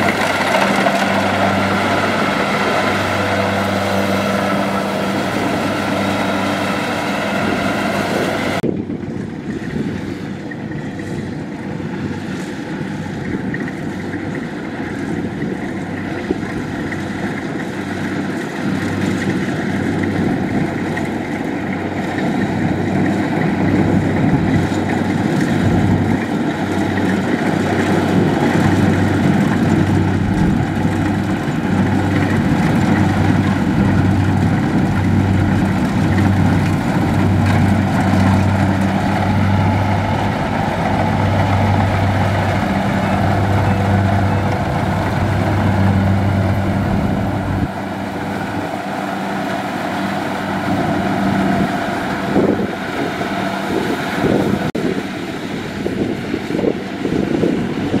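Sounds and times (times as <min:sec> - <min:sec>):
combine harvester engine and threshing: 0:00.0 - 0:58.0.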